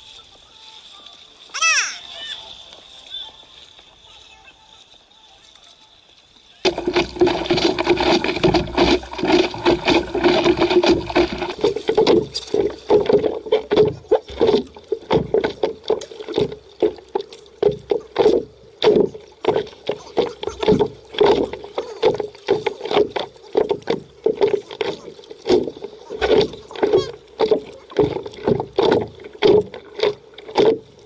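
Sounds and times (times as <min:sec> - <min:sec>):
water splashing around paddleboard: 0:00.0 - 0:31.0.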